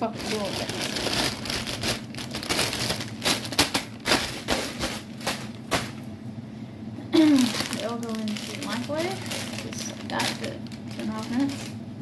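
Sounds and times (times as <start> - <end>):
plastic bags crinkling: 0.0 - 6.1, 7.2 - 12.0.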